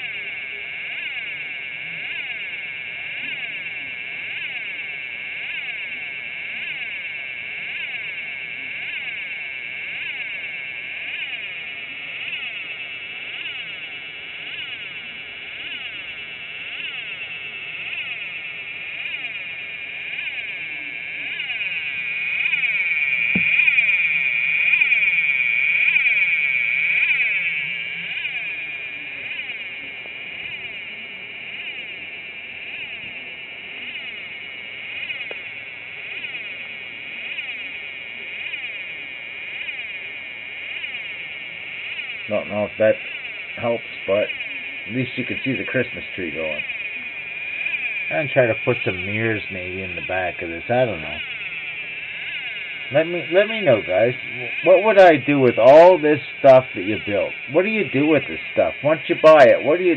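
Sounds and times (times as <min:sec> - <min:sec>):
high-pitched electronic whine: 0:00.0 - 0:59.9.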